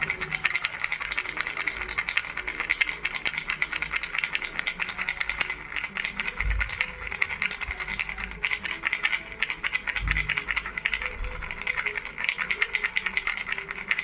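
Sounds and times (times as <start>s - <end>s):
baby rattle shaken: 0.0s - 14.0s.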